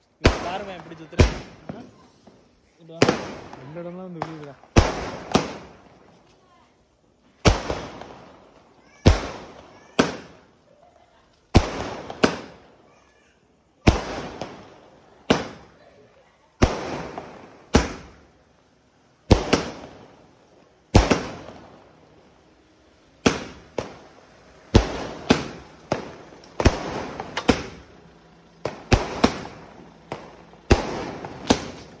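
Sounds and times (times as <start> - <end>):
firework shells bursting: 0.0 - 32.0.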